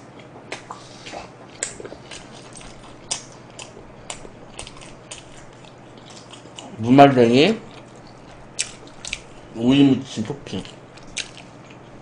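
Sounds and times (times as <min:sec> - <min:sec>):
person chewing food: 0:00.0 - 0:06.8, 0:07.6 - 0:09.9, 0:10.5 - 0:12.0.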